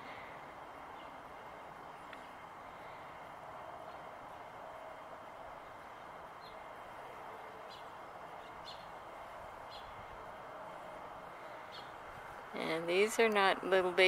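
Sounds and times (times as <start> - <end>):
faint steady background hiss: 0.0 - 14.0.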